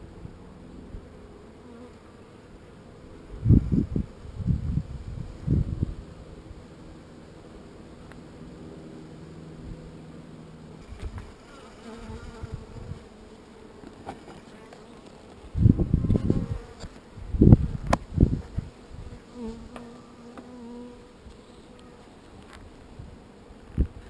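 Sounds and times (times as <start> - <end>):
bees buzzing: 0.4 - 24.0.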